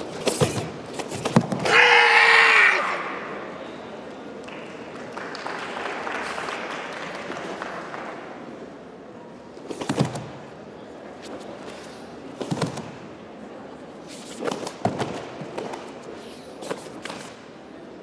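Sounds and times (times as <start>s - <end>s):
murmur of arena hall: 0.0s - 18.0s.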